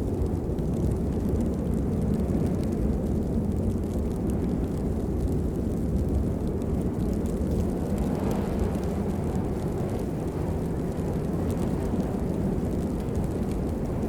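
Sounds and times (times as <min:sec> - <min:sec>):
raindrop ticks: 0:00.0 - 0:14.0
steady rain rushing: 0:00.0 - 0:14.0.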